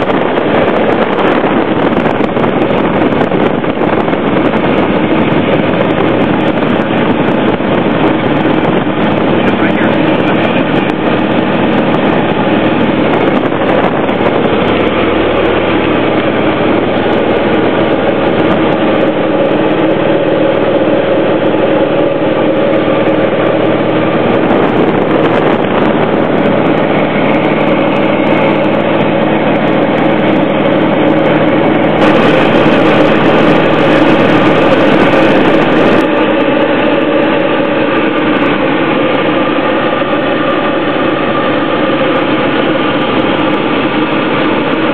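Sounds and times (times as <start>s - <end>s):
light aircraft engine drone: 0.0s - 44.9s.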